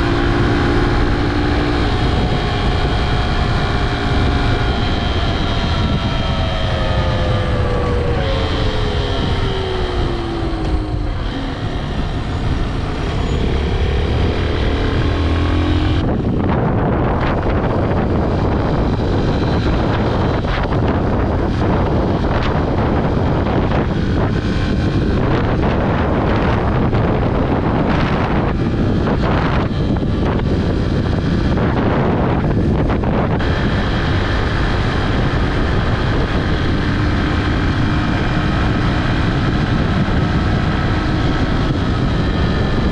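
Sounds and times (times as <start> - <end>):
motorcycle engine running: 0.0 - 42.9
wind buffeting microphone: 0.0 - 42.9.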